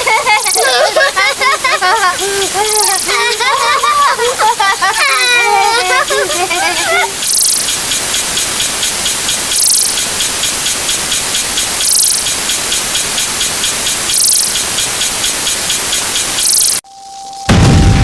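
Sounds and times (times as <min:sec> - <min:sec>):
fast ticking: 0:00.0 - 0:16.8
rain-like hiss: 0:00.0 - 0:16.8
bright high bursts: 0:00.0 - 0:17.4.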